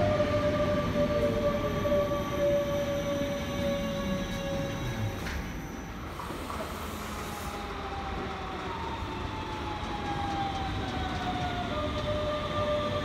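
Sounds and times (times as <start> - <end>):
electric train whine: 0.0 - 13.0
train braking: 0.0 - 13.0
wheels rumbling on rails: 0.0 - 13.0.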